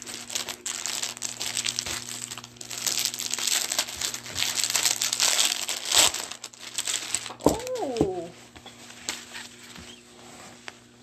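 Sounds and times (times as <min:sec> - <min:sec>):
fabric flag rustling and crinkling: 0:00.0 - 0:10.8.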